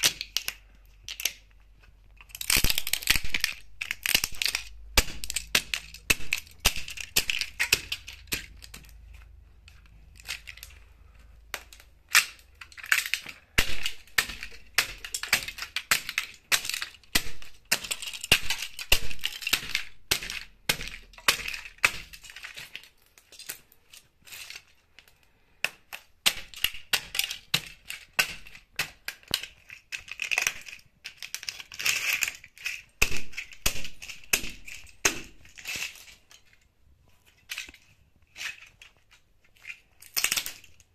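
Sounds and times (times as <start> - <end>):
plastic cracking underfoot: 0.0 - 36.6.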